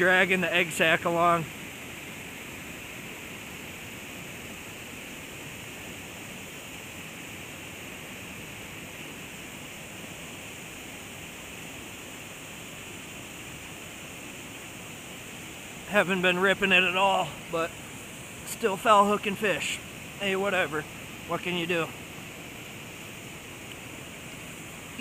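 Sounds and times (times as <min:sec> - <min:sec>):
water spilling over small waterfall: 0:00.0 - 0:25.0.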